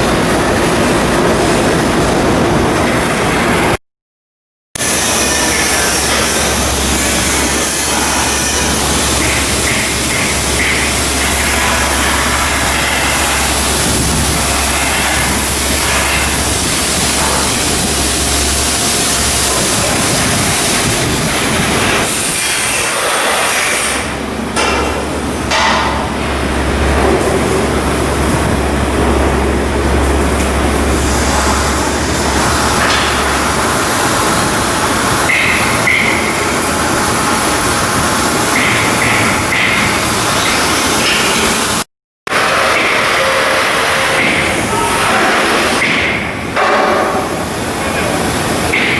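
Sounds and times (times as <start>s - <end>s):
loud mechanical din: 4.8s - 48.9s.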